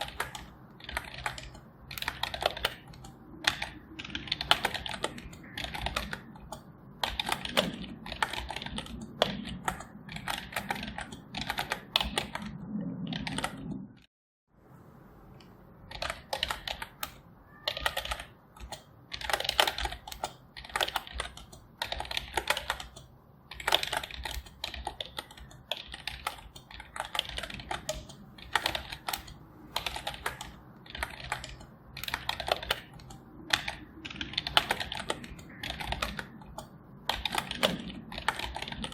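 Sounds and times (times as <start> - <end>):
computer keyboard typing: 0.0 - 14.0, 15.8 - 38.9.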